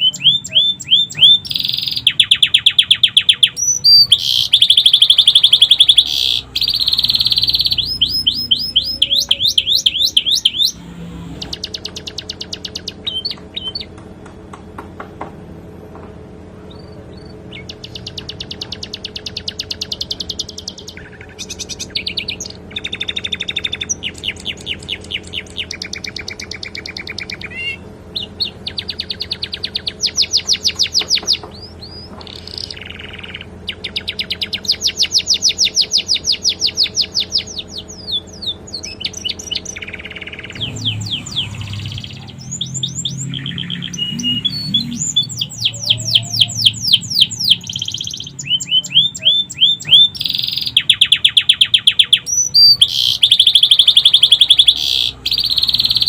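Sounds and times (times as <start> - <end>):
canary singing trills: 0.0 - 14.0, 16.6 - 56.0.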